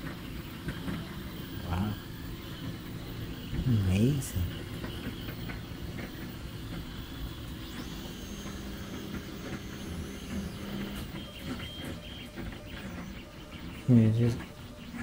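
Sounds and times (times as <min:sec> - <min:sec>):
cooling fan hum: 0:00.0 - 0:15.0
stepper motors whining: 0:00.0 - 0:15.0.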